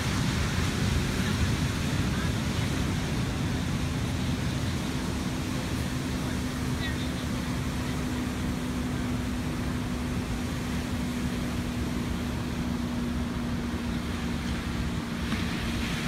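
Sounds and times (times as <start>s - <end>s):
steady low hum: 0.0s - 16.0s
surf breaking on beach: 0.0s - 16.0s.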